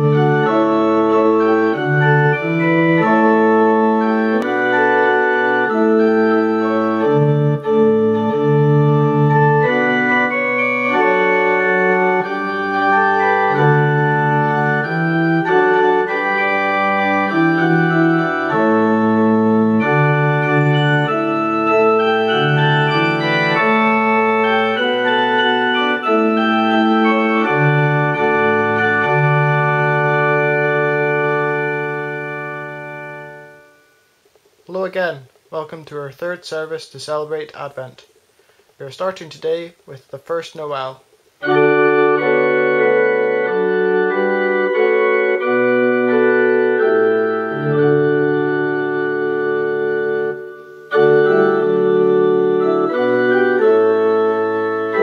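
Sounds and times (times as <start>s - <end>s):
slow organ chords: 0.0s - 36.1s, 40.6s - 55.0s.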